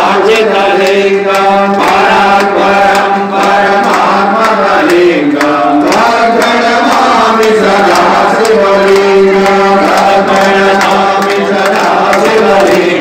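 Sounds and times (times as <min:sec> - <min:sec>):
priests chanting together: 0:00.0 - 0:13.0.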